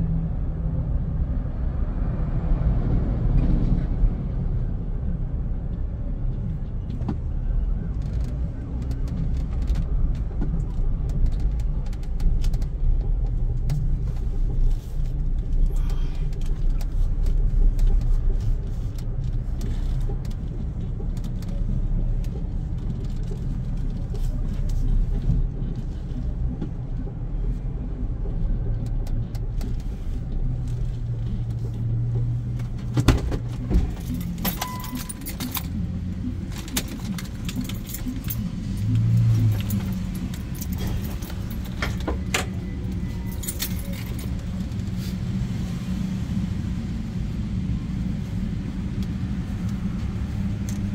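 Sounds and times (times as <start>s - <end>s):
car rumbling: 0.0s - 50.9s.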